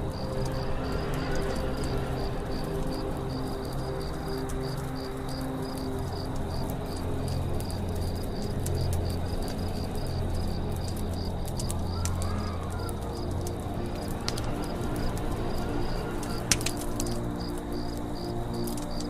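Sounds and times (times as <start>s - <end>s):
campfire crackling and popping: 0.0s - 19.0s
crickets chirping: 0.0s - 19.0s.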